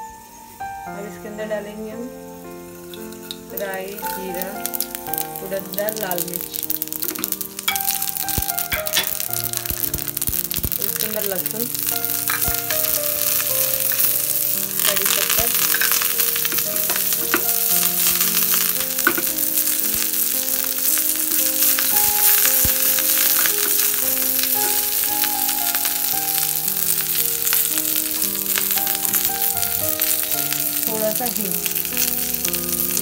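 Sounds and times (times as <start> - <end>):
crackles: 0.0 - 33.0
soft background music: 0.0 - 33.0
spices sizzling in hot oil: 0.0 - 33.0.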